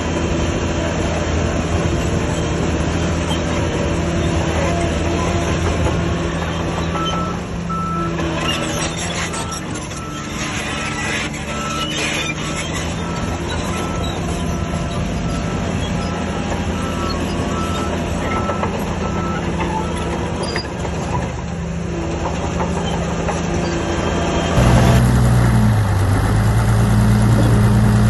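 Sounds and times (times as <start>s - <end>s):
diesel engine droning: 0.0s - 28.0s.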